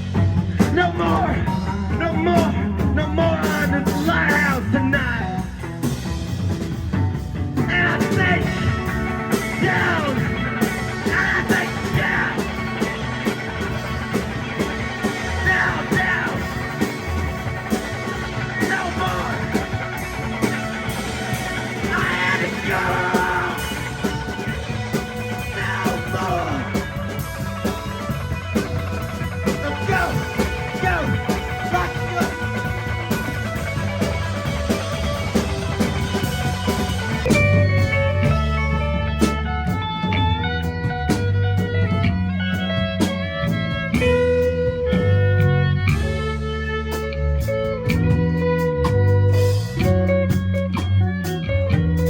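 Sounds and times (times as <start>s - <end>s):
bending guitar lead line: 0.0s - 52.0s
rock band playing live: 0.0s - 52.0s.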